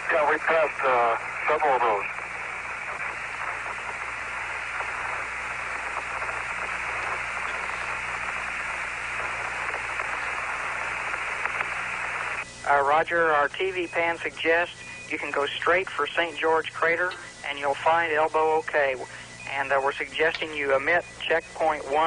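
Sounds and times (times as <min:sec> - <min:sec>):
low hum: 0:00.0 - 0:22.0
radio static hiss: 0:00.0 - 0:22.0.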